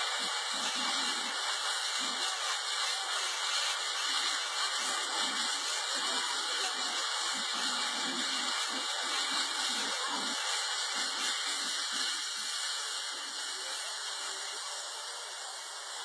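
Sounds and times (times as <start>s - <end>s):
gas flame jet hissing: 0.0s - 16.0s
hose nozzles spraying water: 0.0s - 16.0s.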